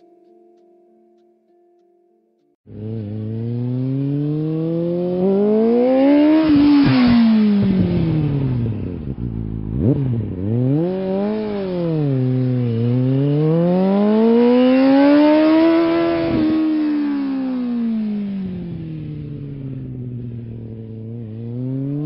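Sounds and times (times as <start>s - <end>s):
engine revving: 2.7s - 22.0s.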